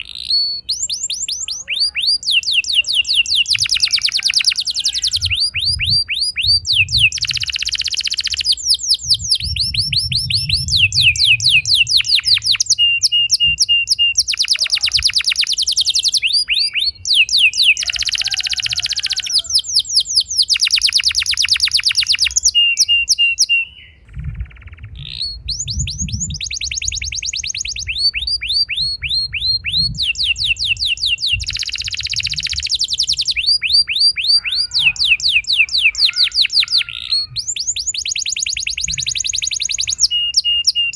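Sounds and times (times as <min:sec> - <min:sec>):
canary singing rolls and trills: 0:00.0 - 0:40.9.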